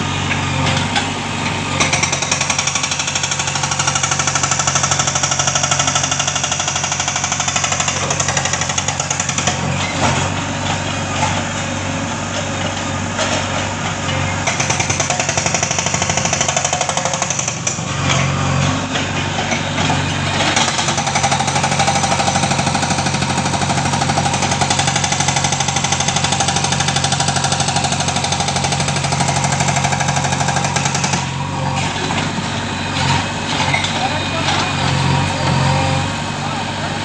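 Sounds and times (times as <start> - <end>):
hydraulic breaker hammer pounding rock: 0.0 - 36.0
diesel engine running: 0.0 - 37.0.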